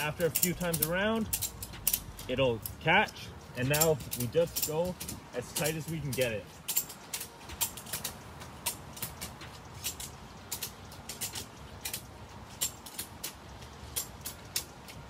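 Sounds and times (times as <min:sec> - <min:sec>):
ratchet metal clicks: 0:00.0 - 0:15.0.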